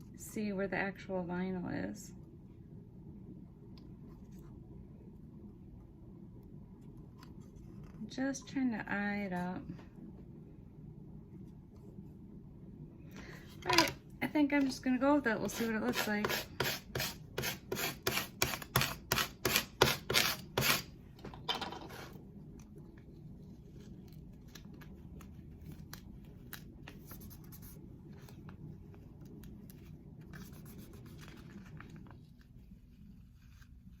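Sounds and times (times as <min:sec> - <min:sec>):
faint low room hum: 0:00.0 - 0:34.0.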